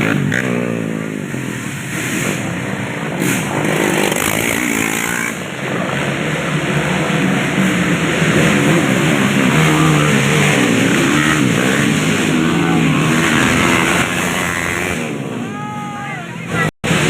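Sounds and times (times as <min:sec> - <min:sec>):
racing motorcycle engines revving: 0:00.0 - 0:17.0.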